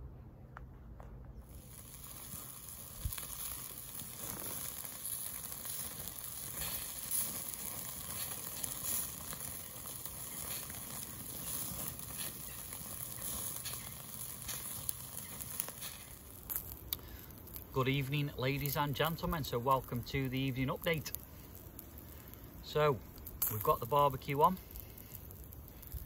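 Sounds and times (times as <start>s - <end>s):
small crackles and pops: 0.5s - 26.0s
meat sizzling on a barbecue: 1.4s - 26.0s.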